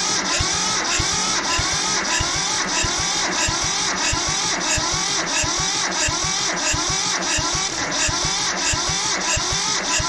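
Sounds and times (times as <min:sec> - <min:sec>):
tractor engine cranking on starter: 0:00.0 - 0:10.0.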